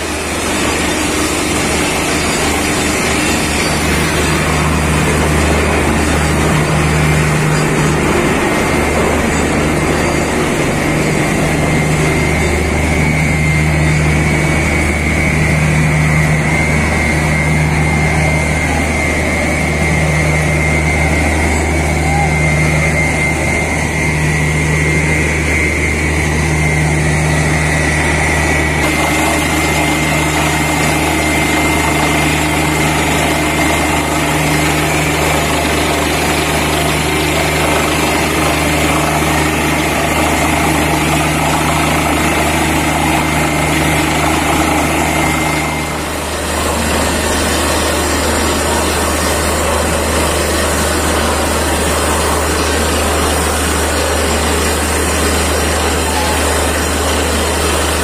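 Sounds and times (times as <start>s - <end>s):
drilling rig engine drone: 0.0s - 58.0s.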